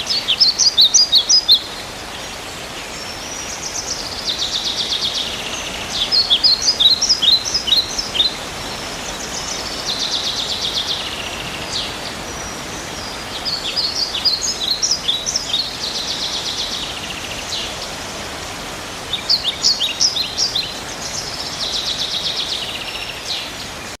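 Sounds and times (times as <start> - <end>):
songbird singing trills: 0.0 - 18.0, 19.1 - 23.8
background hiss: 0.0 - 24.0.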